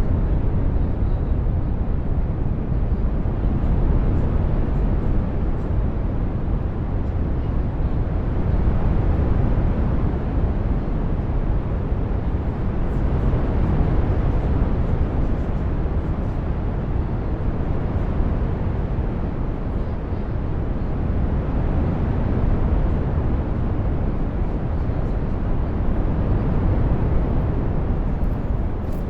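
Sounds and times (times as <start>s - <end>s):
brown noise rumbling hiss: 0.0s - 29.0s.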